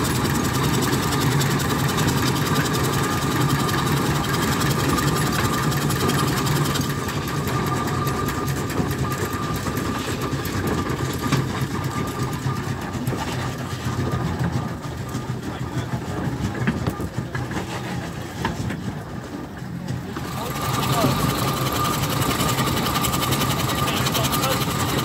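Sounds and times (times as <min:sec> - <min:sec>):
steam traction engine beat: 0:00.0 - 0:25.0.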